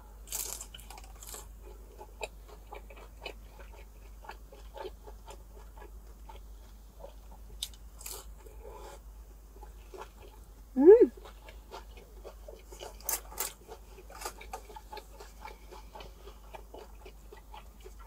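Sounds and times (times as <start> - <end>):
crunching crispy taco: 0.2 - 8.6, 11.2 - 18.0.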